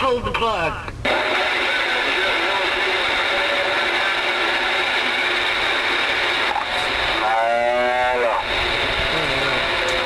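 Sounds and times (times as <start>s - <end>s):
radio static hiss: 0.2s - 10.0s
voice-like radio call: 1.1s - 10.0s.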